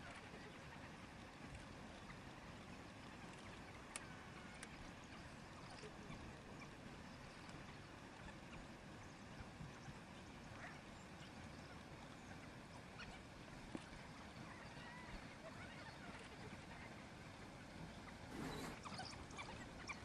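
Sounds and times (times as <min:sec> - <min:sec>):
faint chirps and clicks: 0:00.0 - 0:20.0
faint outdoor background noise: 0:00.0 - 0:20.0.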